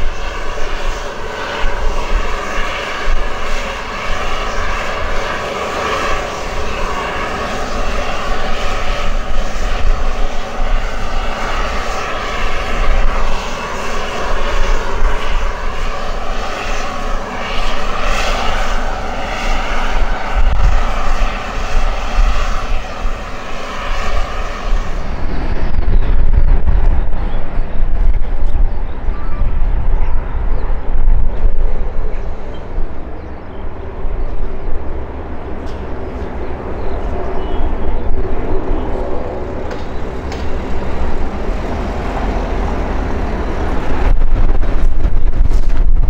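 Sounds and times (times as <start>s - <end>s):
aircraft engines running: 0.0s - 46.0s.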